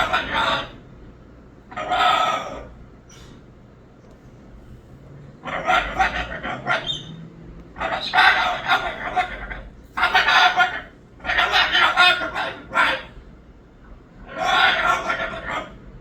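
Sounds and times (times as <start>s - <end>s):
cockatoo calling loudly: 0.0s - 3.4s, 5.4s - 13.5s, 14.2s - 16.0s.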